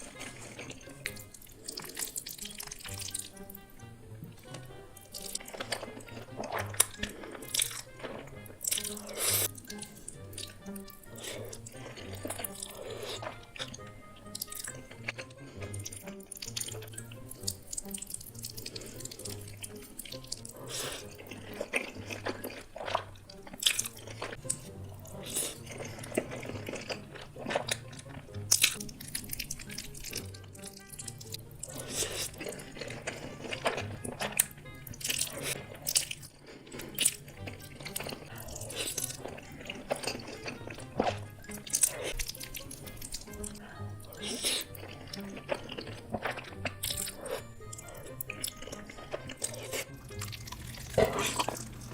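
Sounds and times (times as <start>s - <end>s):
wet chewing and slurping: 0.0s - 51.9s.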